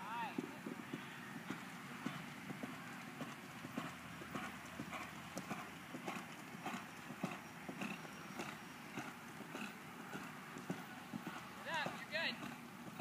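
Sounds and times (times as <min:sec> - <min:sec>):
horse hooves on dirt: 0:00.0 - 0:13.0.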